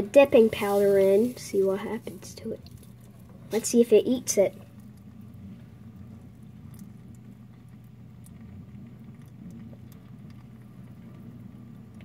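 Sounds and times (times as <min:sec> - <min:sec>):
candy powder crackling and fizzing: 0:00.0 - 0:12.0
steady low hum: 0:00.0 - 0:12.0.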